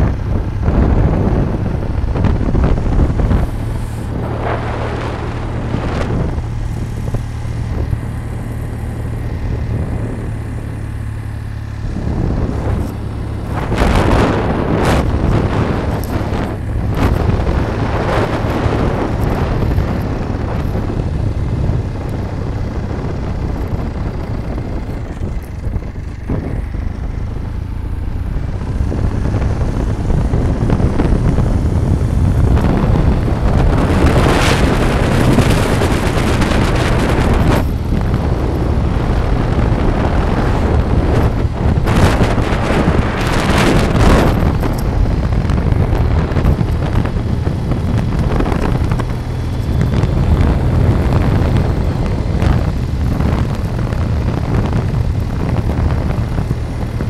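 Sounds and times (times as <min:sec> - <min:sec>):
vehicle road noise rumble: 0:00.0 - 0:57.0
wind buffeting microphone: 0:00.0 - 0:57.0.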